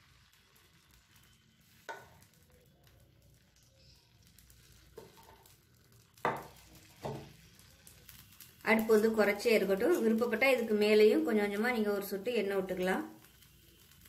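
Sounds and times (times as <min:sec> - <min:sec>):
batter sizzling in hot pan: 0:00.0 - 0:14.0.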